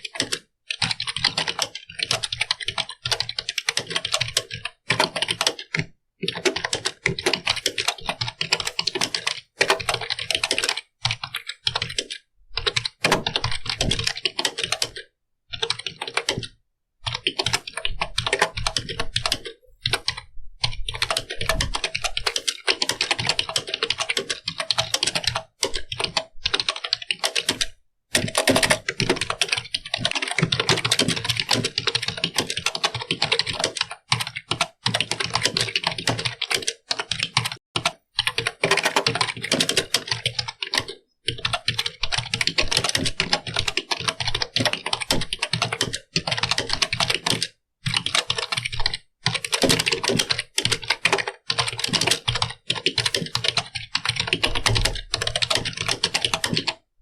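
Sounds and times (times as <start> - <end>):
keyboard typing: 0.0 - 56.9.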